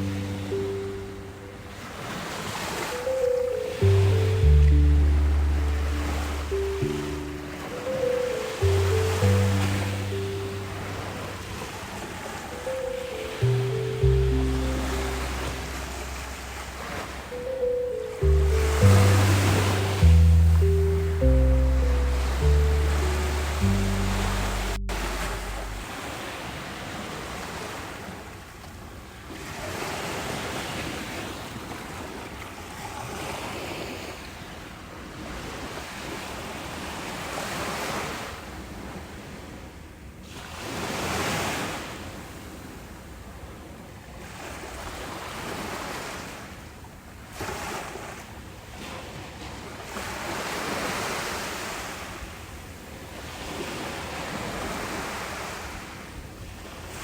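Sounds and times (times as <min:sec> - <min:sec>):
small waves washing ashore: 0:00.0 - 0:57.0
wind: 0:00.0 - 0:57.0.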